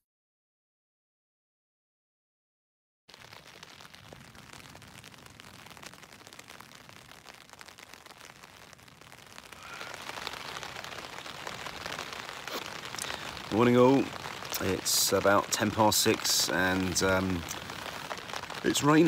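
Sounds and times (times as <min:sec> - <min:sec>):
rain pattering on tent: 0:03.1 - 0:19.0.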